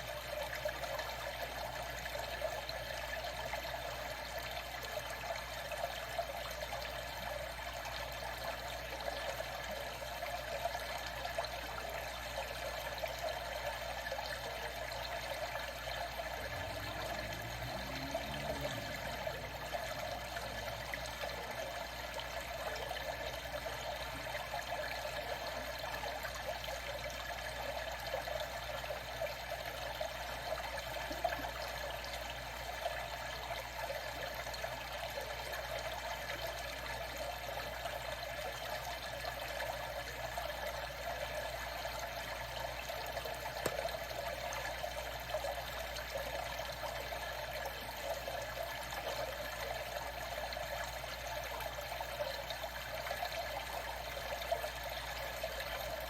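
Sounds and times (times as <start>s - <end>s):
water drips and splashes: 0.0s - 56.0s
water trickling and lapping: 0.0s - 56.0s.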